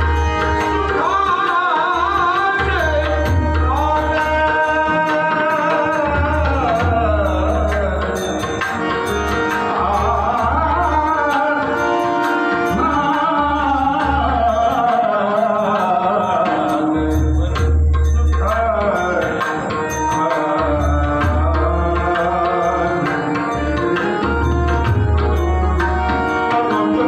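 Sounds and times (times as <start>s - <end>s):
hand drums keeping rhythm: 0.0s - 15.0s, 16.4s - 27.0s
harmonium: 0.0s - 27.0s
man singing: 0.0s - 27.0s.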